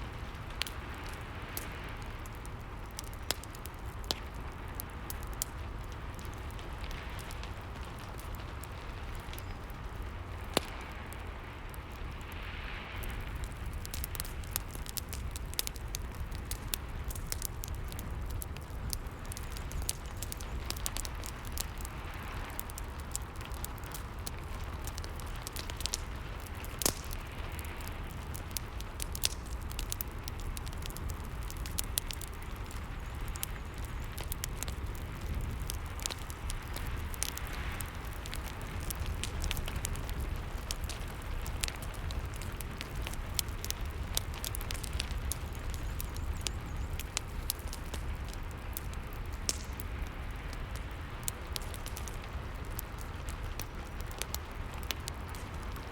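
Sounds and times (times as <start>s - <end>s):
rain: 0.0s - 55.9s
wood fire crackling and popping: 0.0s - 55.9s.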